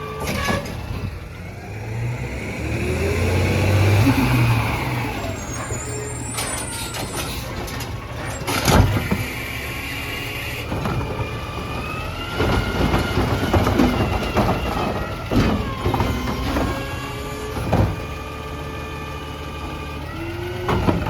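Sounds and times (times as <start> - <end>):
garbage truck engine running: 0.0 - 21.0.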